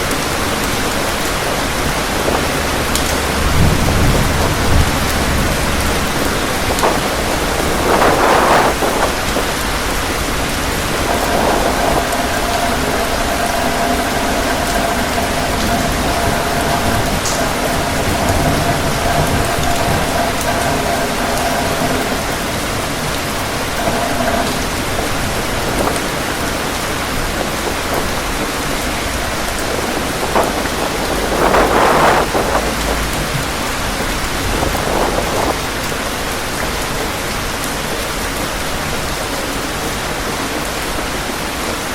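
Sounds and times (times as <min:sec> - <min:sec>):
heavy rain with wind: 0:00.0 - 0:41.9.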